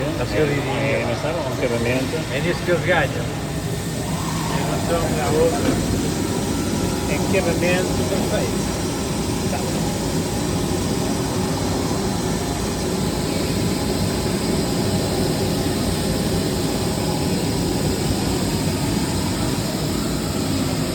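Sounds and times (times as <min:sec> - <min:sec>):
cnc machine running: 0:00.0 - 0:20.9.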